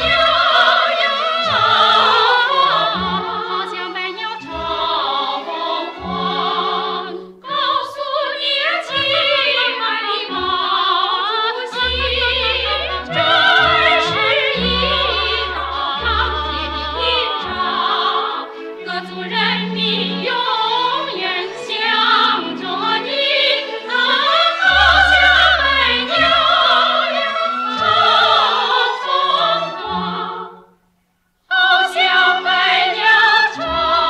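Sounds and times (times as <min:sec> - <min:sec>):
operatic singing: 0:00.0 - 0:30.8, 0:31.5 - 0:34.0
orchestral accompaniment: 0:00.0 - 0:30.9.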